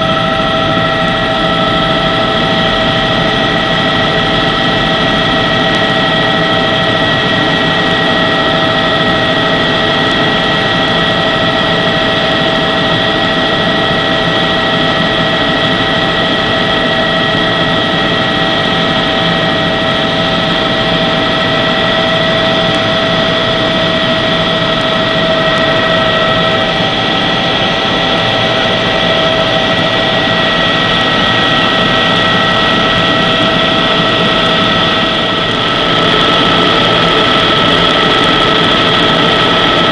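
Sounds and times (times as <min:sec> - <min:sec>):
helicopter flying: 0:00.0 - 0:39.9.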